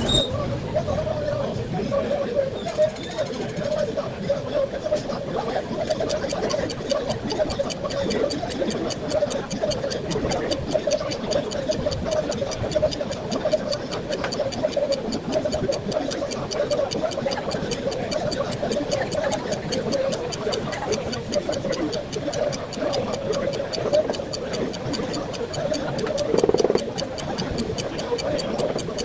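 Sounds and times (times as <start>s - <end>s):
steady mid-pitched hum: 4.2s - 29.0s
fast even ticking: 5.2s - 29.0s.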